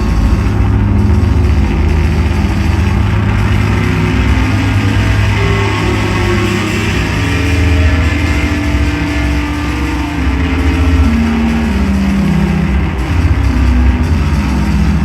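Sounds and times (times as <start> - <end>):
distorted drone-noise music: 0.0 - 15.0.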